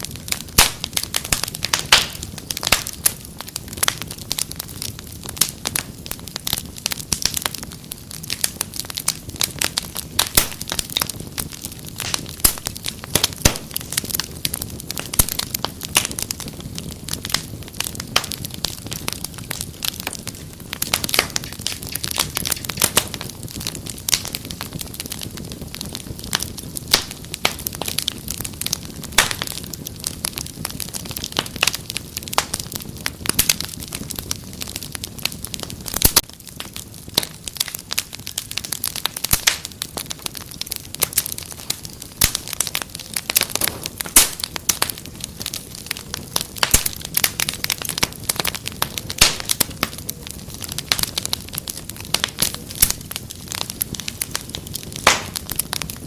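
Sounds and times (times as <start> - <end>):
fire crackling and snapping: 0.0 - 56.0
low rumble of flames: 0.0 - 56.0.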